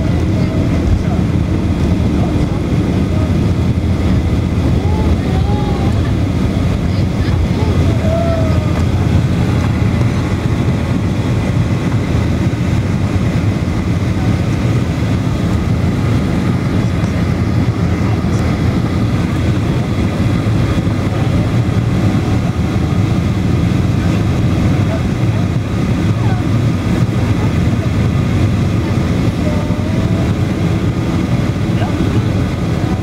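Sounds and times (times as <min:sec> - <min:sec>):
jet cabin engine rumble: 0:00.0 - 0:33.0.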